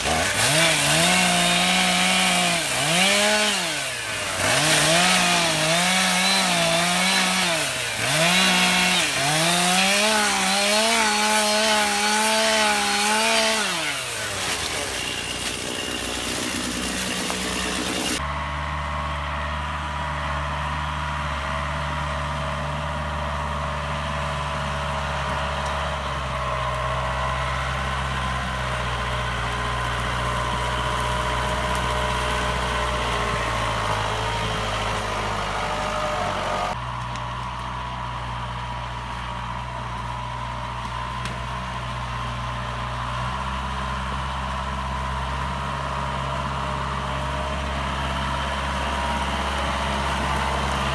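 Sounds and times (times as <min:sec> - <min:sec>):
chainsaw running: 0:00.0 - 0:50.9
tractor diesel engine running: 0:00.0 - 0:50.9.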